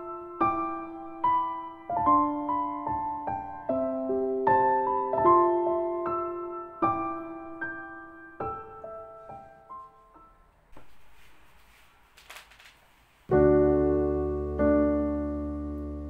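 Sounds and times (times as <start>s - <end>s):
solo piano: 0.0s - 11.6s, 13.3s - 16.0s.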